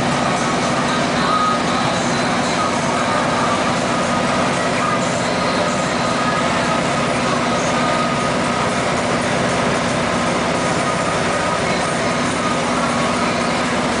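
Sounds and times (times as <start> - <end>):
boat engine running: 0.0 - 14.0
water churning in wake: 0.0 - 14.0.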